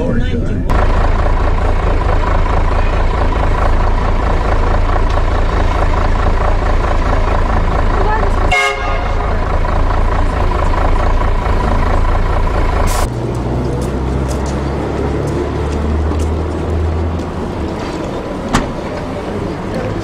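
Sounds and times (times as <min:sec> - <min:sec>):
traffic hum: 0:00.0 - 0:20.0
trolleybus driving past: 0:00.0 - 0:20.0.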